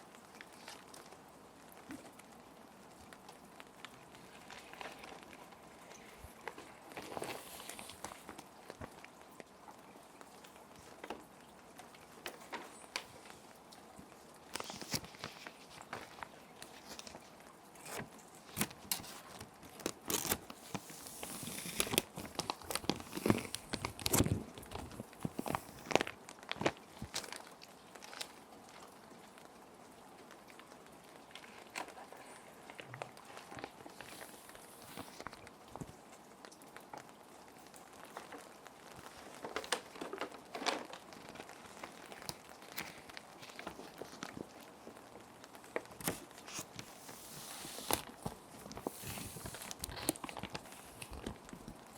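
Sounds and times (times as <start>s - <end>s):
faint rain hiss: 0.0s - 51.9s
plastic sheets crinkling: 3.1s - 9.3s, 10.4s - 29.4s, 31.1s - 36.1s, 36.8s - 51.9s.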